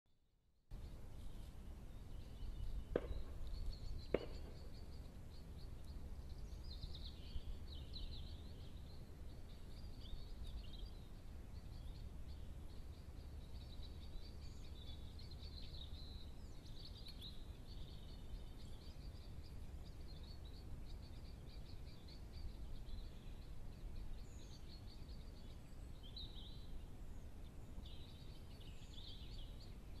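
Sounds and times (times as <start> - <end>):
small birds chirping: 0.7 - 30.0.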